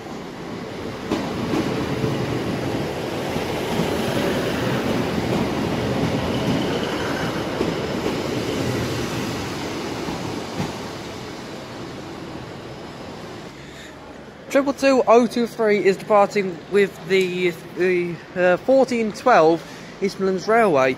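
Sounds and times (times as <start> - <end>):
train wheels and engines rumbling: 0.0 - 20.9.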